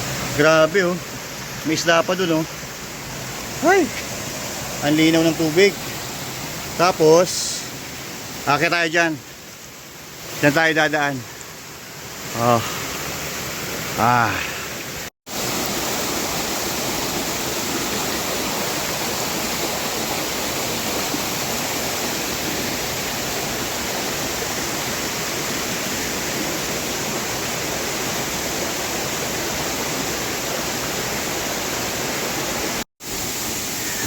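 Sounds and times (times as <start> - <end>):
fast-flowing river water: 0.0 - 34.0.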